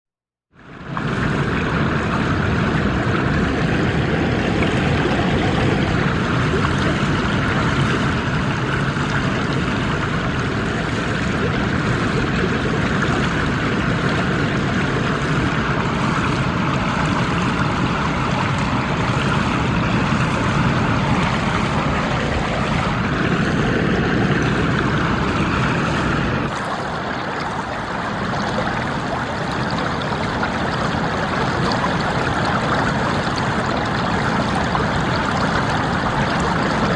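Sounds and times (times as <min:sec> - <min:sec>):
stream babbling over stones: 0:00.8 - 0:36.9.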